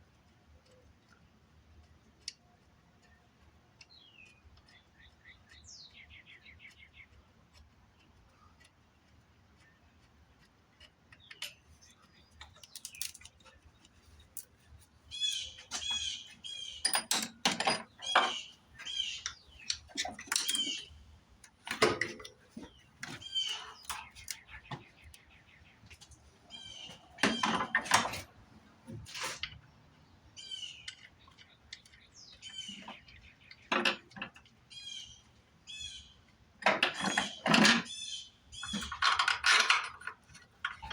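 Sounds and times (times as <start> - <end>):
birds chirping: 3.0 - 28.7, 29.5 - 40.9.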